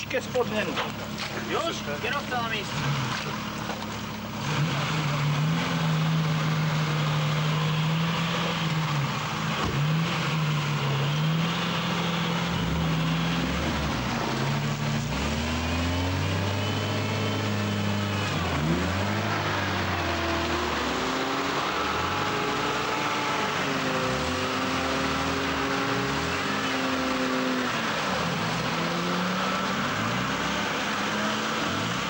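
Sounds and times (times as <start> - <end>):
deeper second engine: 0.0 - 32.0
truck engine under load: 0.0 - 32.0.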